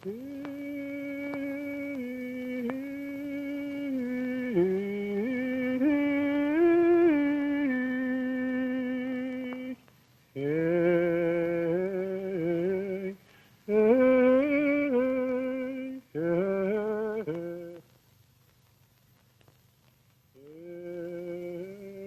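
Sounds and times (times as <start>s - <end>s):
slow singing in held notes: 0.0s - 18.0s, 20.3s - 22.0s.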